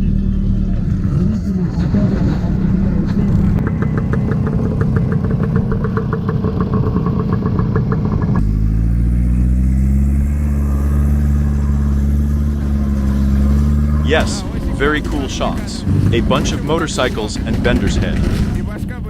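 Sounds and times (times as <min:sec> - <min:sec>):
motorcycle engine rumble: 0:00.0 - 0:19.0
rapid engine clatter: 0:00.0 - 0:19.0.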